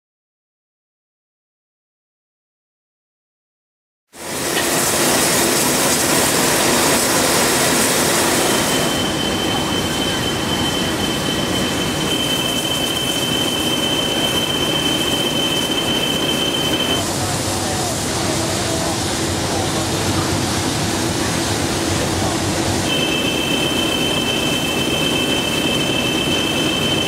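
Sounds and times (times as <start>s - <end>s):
steam hissing: 4.2s - 27.0s
thin high whine: 4.2s - 27.0s.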